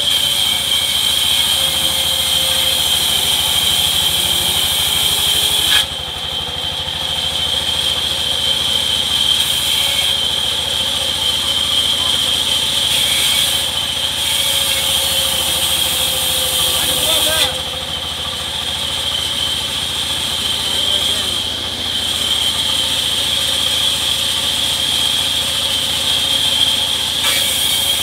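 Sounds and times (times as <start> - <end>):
saw blade hissing through wood: 0.0 - 6.0, 8.7 - 28.0
band saw whining: 0.0 - 28.0.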